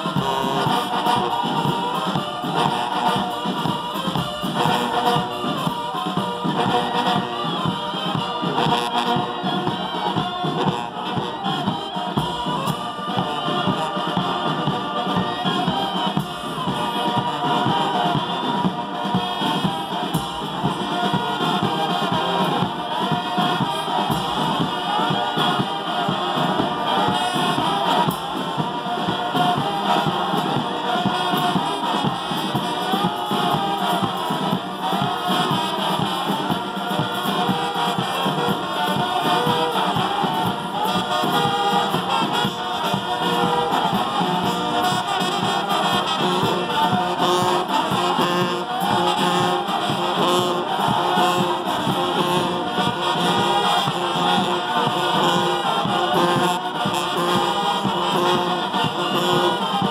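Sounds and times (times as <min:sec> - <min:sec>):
brass band music: 0:00.0 - 0:59.9.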